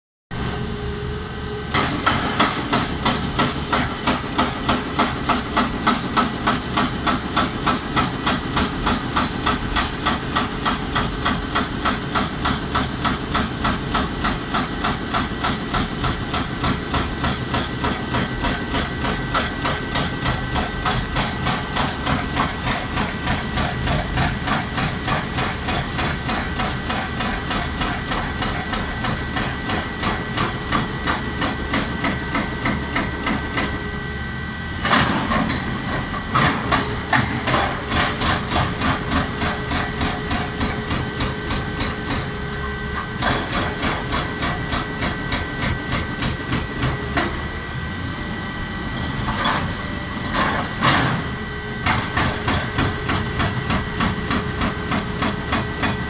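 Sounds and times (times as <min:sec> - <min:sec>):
hydraulic breaker hammering rock: 0:01.7 - 0:33.8, 0:34.8 - 0:42.4, 0:43.0 - 0:47.4, 0:49.2 - 0:56.0.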